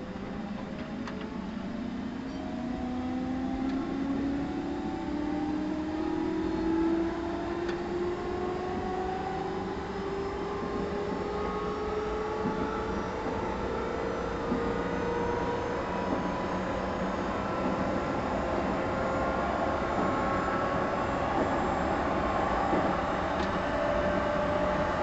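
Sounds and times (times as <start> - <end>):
train traction motors whining: 0.0 - 25.0.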